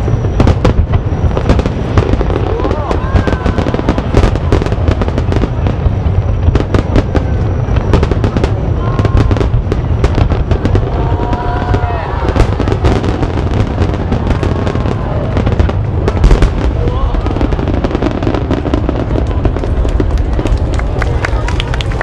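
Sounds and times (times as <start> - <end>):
fireworks bursting: 0.0 - 22.0
low rumble: 0.0 - 22.0.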